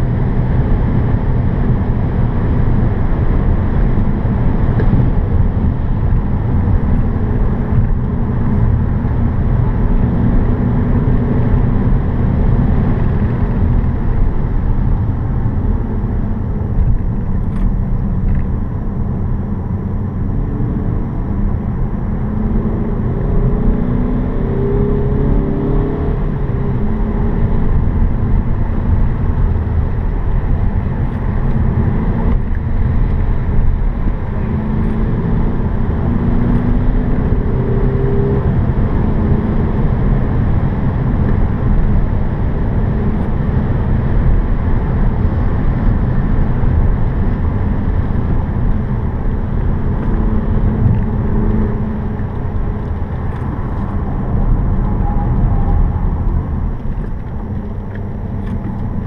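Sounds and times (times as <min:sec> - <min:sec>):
diesel engine revving in cabin: 0:00.0 - 0:59.0
road and tyre rumble: 0:00.0 - 0:59.0.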